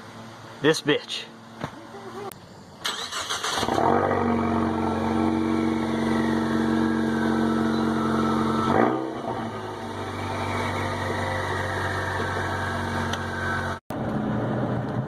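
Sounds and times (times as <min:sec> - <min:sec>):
car engine cranking and idling: 0:01.4 - 0:15.0.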